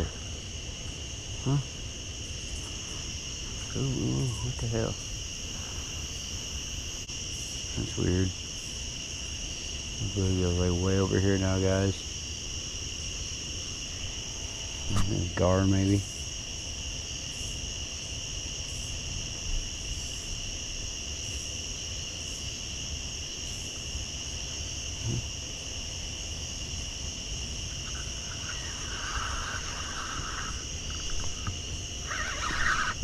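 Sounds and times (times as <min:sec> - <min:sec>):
insect chorus trilling: 0:00.0 - 0:33.0.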